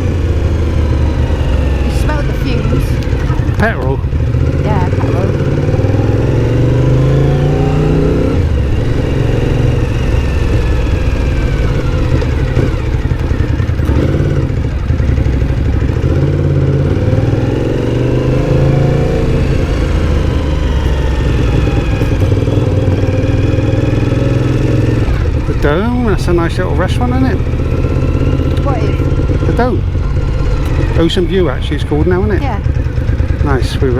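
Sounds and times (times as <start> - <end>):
low wind rumble: 0.0 - 33.9
motorcycle engine accelerating: 0.0 - 33.9.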